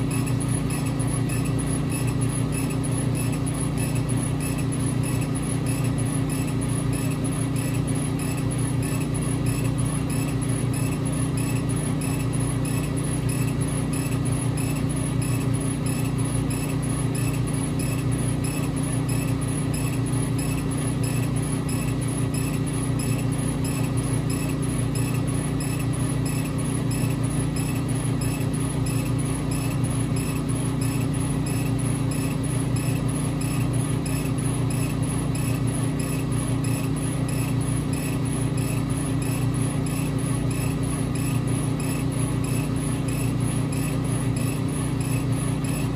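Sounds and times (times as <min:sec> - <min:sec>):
laser cutter humming: 0:00.0 - 0:45.9.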